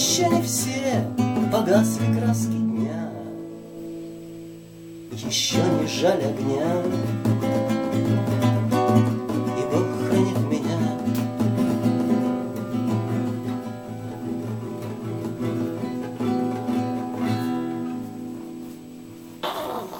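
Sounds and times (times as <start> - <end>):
acoustic guitar strumming chords: 0.0 - 19.9.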